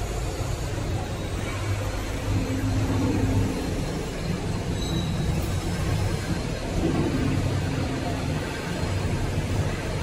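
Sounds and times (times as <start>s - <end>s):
machine low mechanical hum: 0.0s - 10.0s.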